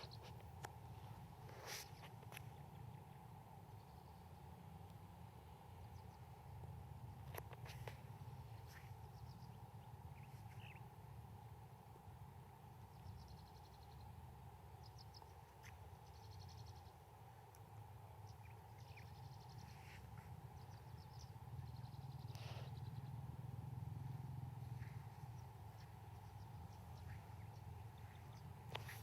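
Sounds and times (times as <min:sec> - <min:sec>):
small birds chirping and trilling: 0:00.0 - 0:29.0
steady low rumble: 0:02.1 - 0:29.0.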